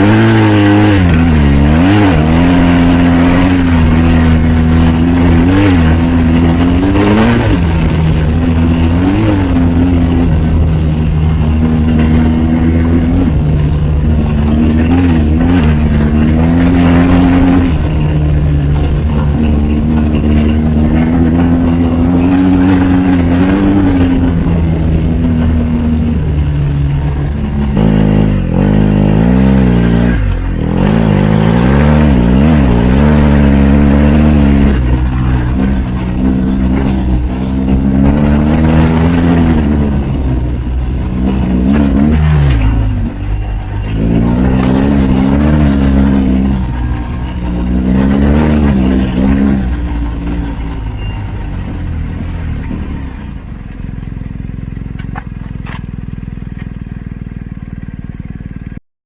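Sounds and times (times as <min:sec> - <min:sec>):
motorcycle engine revving: 0:00.0 - 0:58.8.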